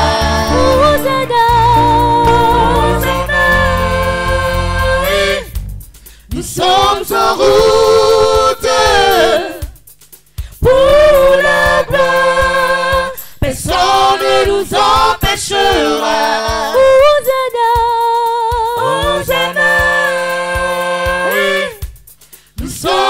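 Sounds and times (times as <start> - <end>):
a cappella group singing in harmony: 0.0 - 23.0.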